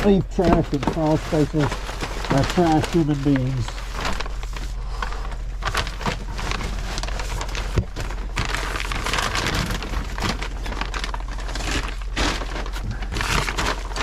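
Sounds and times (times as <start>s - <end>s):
rustling and crackling of crawling: 0.0s - 14.0s
steady low hum: 0.0s - 14.0s.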